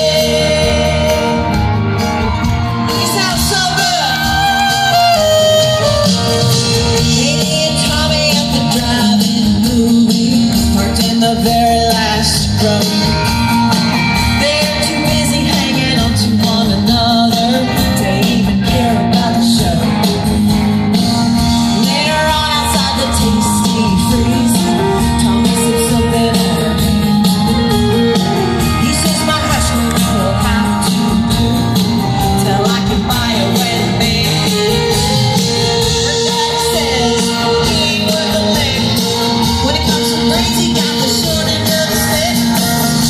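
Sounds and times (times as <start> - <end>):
country band playing with singing: 0.0 - 43.0
steady drum beat: 0.0 - 43.0.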